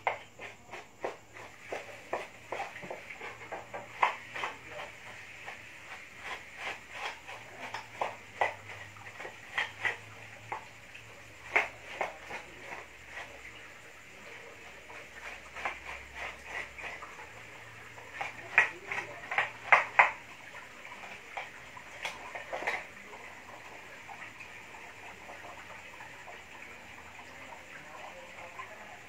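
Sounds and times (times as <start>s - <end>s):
faint splashing water: 0.0s - 29.0s.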